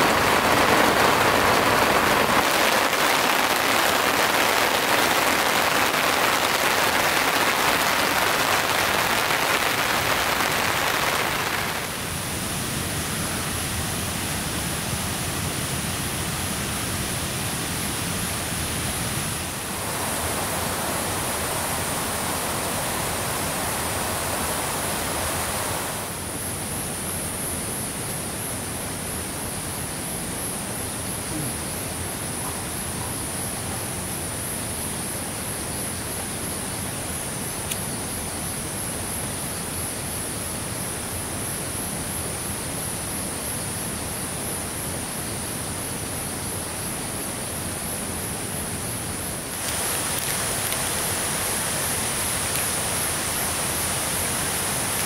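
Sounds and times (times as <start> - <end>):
heavy rain hiss: 0.0 - 55.0.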